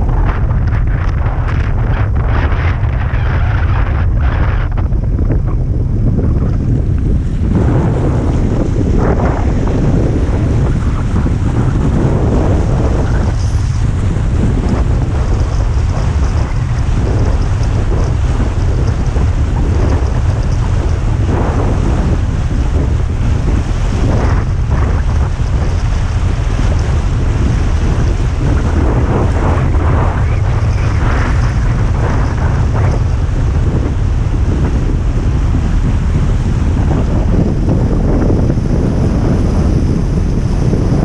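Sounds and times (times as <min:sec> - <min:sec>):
water rushing surges: 0:00.0 - 0:41.0
wind buffeting microphone: 0:00.0 - 0:41.0.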